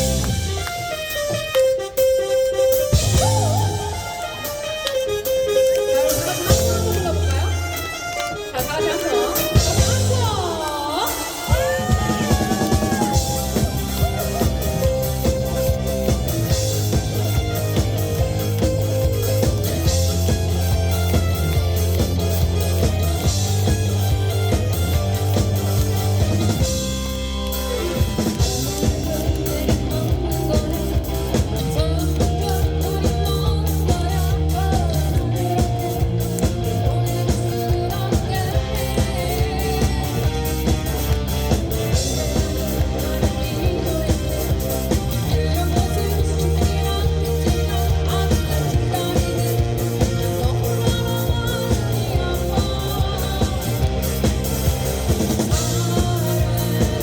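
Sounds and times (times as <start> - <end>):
bass guitar: 0.0 - 57.0
drum kit: 0.0 - 57.0
electric guitar: 0.0 - 57.0
live rock band playing: 0.0 - 57.0.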